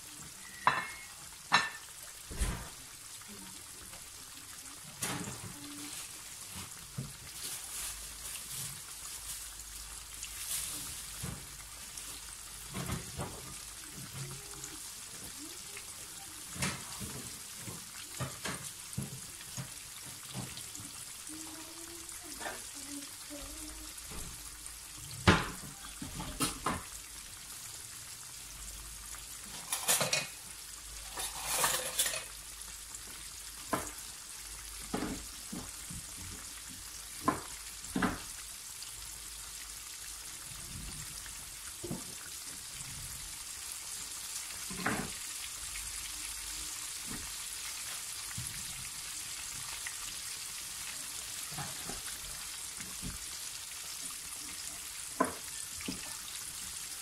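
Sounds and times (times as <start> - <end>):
chicken frying in oil: 0.0 - 57.0.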